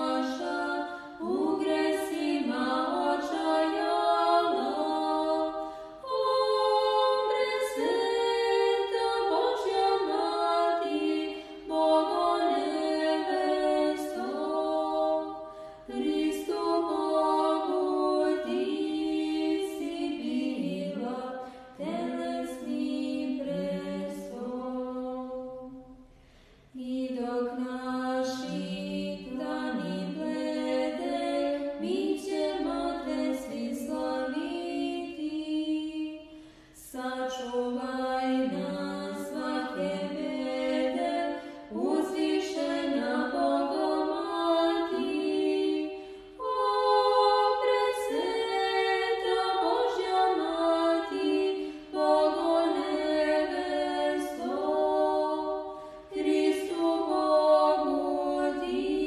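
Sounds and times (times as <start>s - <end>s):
choir singing a cappella: 0.0s - 59.0s.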